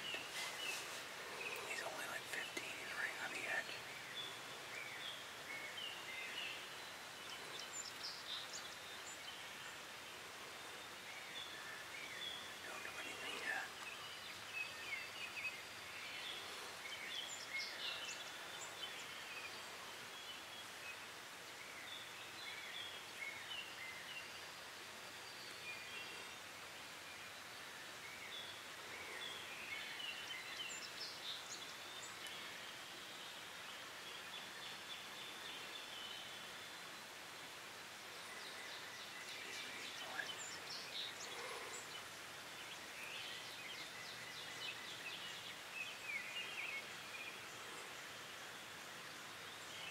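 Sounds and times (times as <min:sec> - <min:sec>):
background hiss: 0:00.0 - 0:49.9
small birds chirping: 0:00.0 - 0:49.9.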